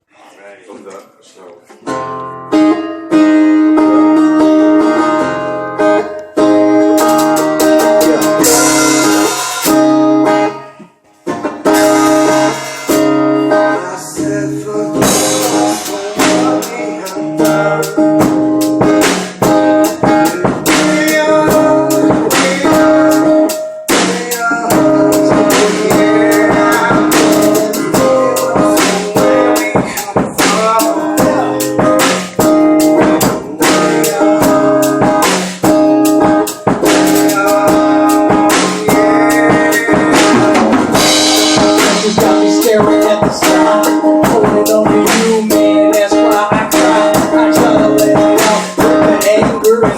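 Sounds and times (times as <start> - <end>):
instrumental music guitar and drums: 1.7 - 49.9.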